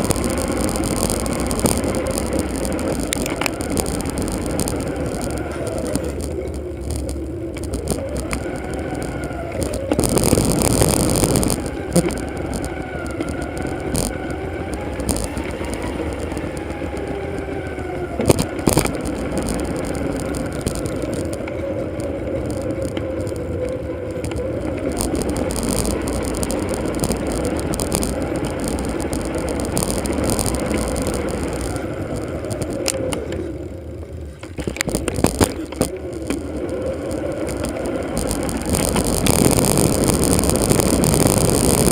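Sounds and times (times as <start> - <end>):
bicycle knocks and rattles: 0.0 - 41.9
sped-up wind and road noise: 0.0 - 41.9
wavering hum: 0.0 - 41.9.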